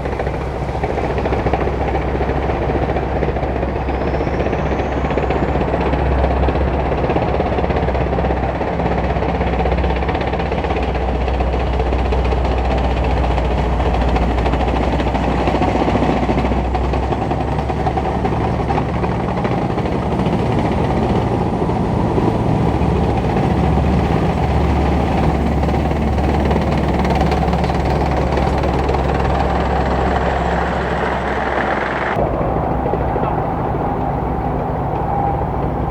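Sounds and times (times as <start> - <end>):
steel tracks clattering: 0.0 - 35.9
tank diesel engine running: 0.0 - 35.9.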